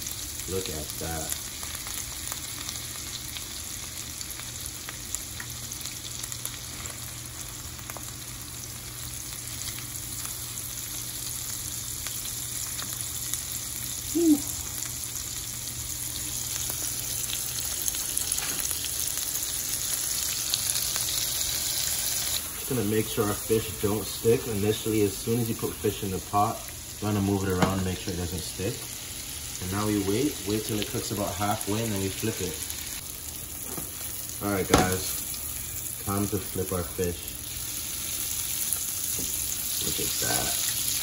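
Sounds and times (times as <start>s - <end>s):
fish frying in pan: 0.0s - 41.0s.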